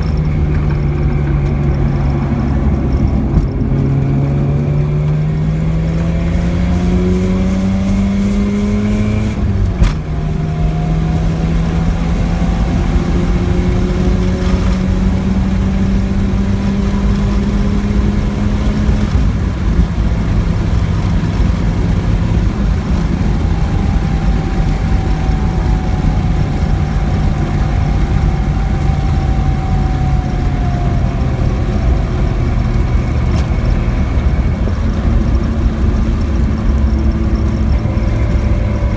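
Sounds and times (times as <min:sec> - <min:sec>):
rotary car engine revving: 0:00.0 - 0:38.9
thin whining tone: 0:00.0 - 0:38.9.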